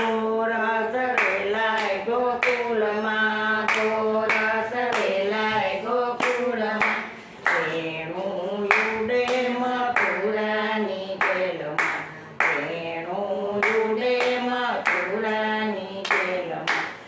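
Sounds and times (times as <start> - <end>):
women singing in unison: 0.0 - 17.0.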